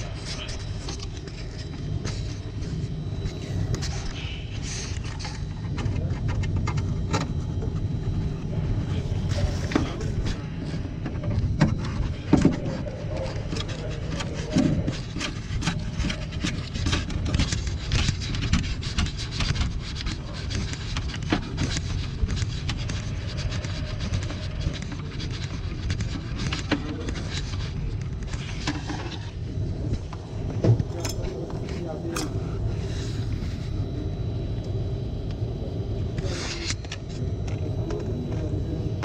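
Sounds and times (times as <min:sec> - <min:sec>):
low machinery drone: 0:00.0 - 0:39.0.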